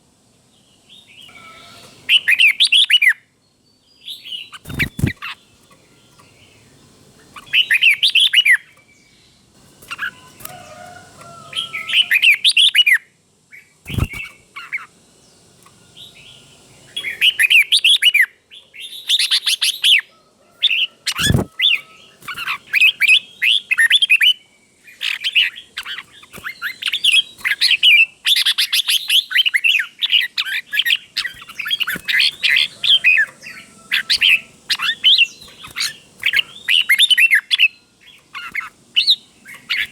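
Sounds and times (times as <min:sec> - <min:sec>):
bulbul singing: 0:01.0 - 0:20.0, 0:20.8 - 0:39.9.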